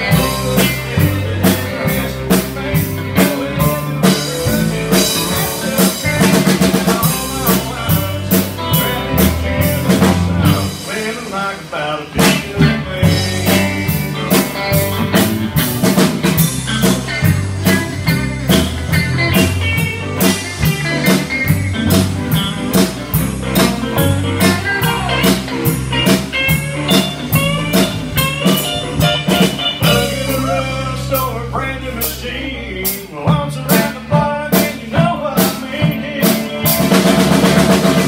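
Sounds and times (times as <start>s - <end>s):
live country band playing: 0.0s - 38.0s.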